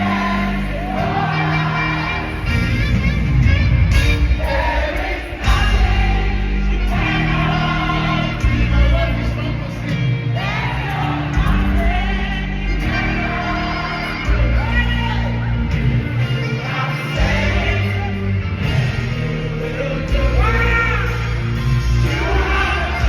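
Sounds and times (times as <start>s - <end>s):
singers over a band: 0.0s - 23.0s.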